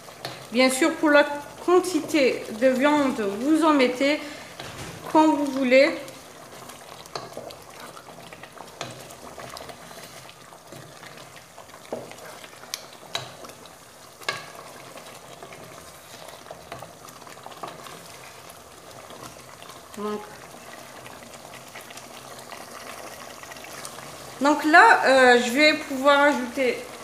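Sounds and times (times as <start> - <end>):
sauce sizzling: 0.0 - 27.0.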